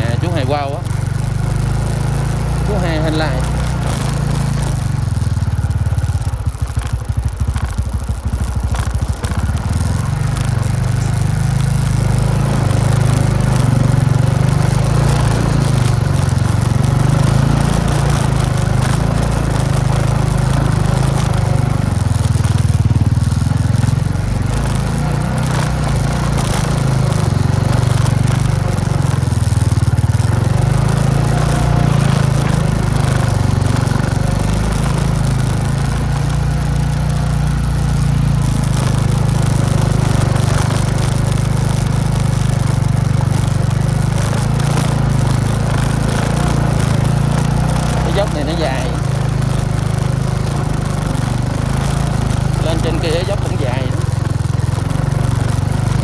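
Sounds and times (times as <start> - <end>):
motorbike engine running: 0.0 - 56.0.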